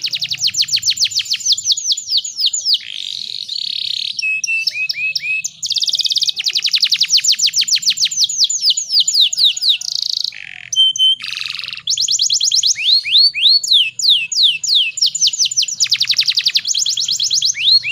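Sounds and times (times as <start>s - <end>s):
canary singing: 0.0s - 17.9s.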